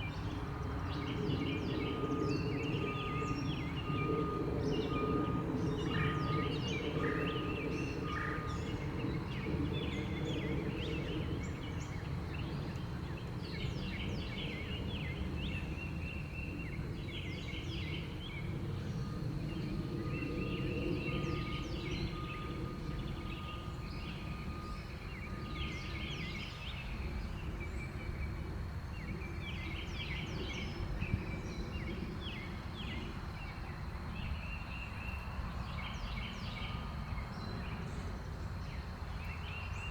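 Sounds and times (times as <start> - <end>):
songbirds chirping: 0.3 - 39.9.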